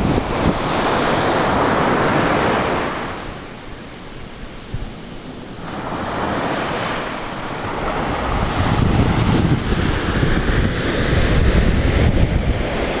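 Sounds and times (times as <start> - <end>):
wind buffeting microphone: 0.0 - 3.4, 5.8 - 13.0
surf breaking on a beach: 0.0 - 13.0.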